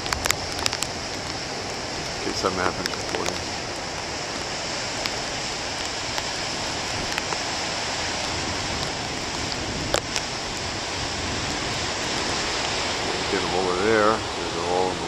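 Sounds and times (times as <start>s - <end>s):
storm surf breaking on rocky shore: 0.0s - 15.0s.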